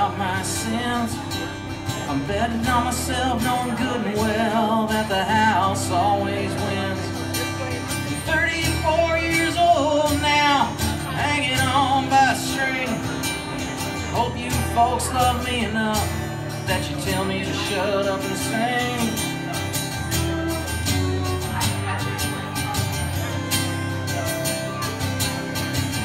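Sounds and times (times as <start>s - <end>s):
pedal steel guitar melody: 0.0s - 26.0s
strummed acoustic guitar: 0.0s - 26.0s.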